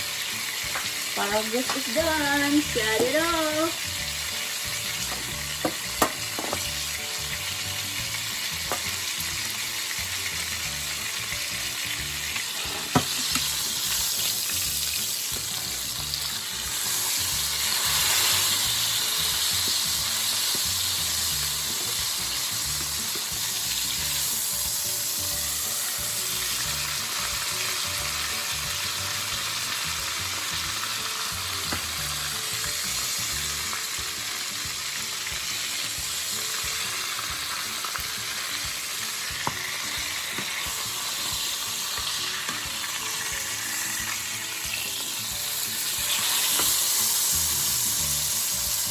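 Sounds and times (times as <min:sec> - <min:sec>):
steaks sizzling in a pan: 0:00.0 - 0:48.9.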